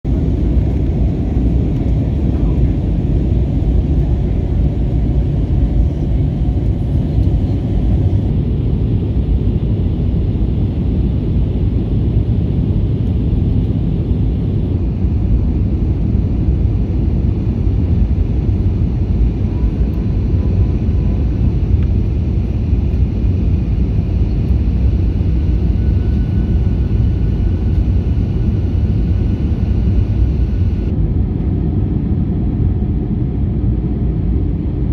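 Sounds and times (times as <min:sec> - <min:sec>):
airliner cabin rumble: 0:00.0 - 0:34.9.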